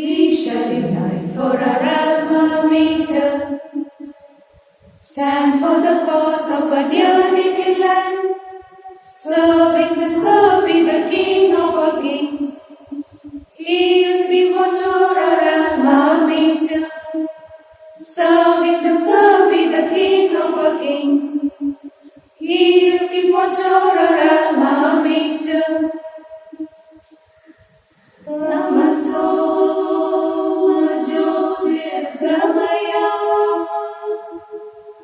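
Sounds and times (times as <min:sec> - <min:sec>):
unaccompanied voices singing: 0:00.0 - 0:35.0.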